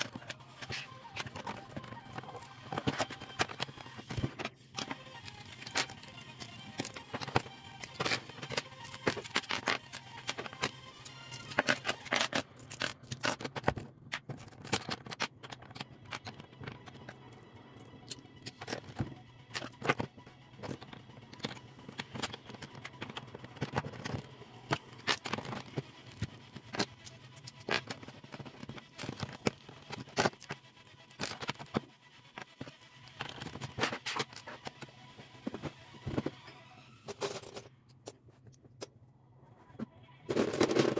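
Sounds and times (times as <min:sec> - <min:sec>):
plastic bricks clicking and clattering: 0:00.0 - 0:36.3, 0:40.3 - 0:40.9.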